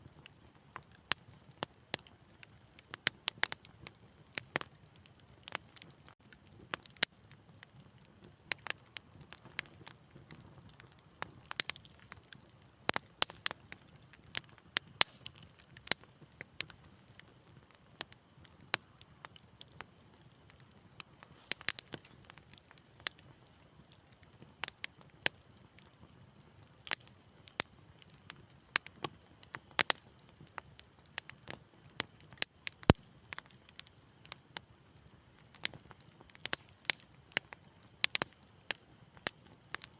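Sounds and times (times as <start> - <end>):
faint low rumble of burning: 0.0 - 39.9
wood fire pops and snaps: 0.2 - 39.9.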